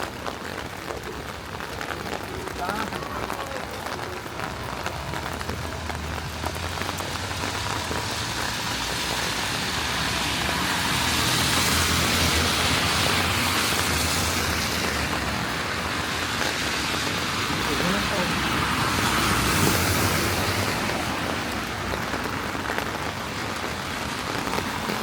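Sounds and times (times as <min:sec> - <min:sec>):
rain falling on a street: 0:00.0 - 0:25.0.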